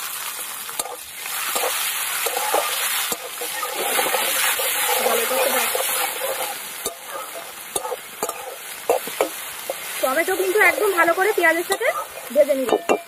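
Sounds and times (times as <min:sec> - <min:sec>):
vegetables sizzling in hot oil: 0:00.0 - 0:13.0
metal spatula scraping a pan: 0:00.3 - 0:13.0.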